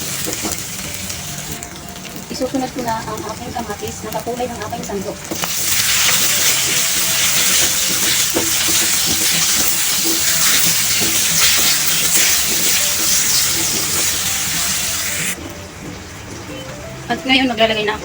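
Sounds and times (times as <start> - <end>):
tomatoes sizzling in hot oil: 0.0 - 15.4.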